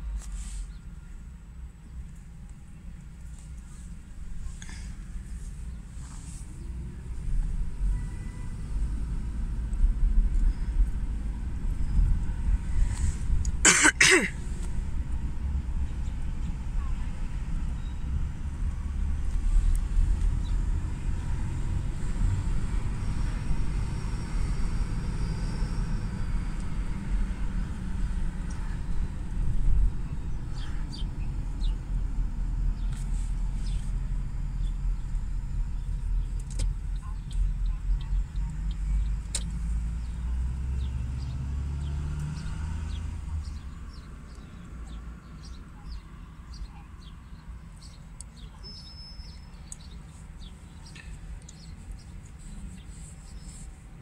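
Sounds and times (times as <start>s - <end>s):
vehicle road and engine rumble: 0.0s - 54.0s.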